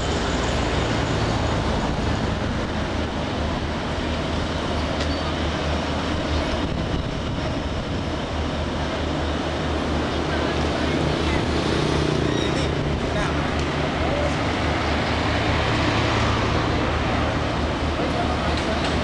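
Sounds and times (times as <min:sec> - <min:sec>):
diesel train engine rumbling: 0:00.0 - 0:19.0.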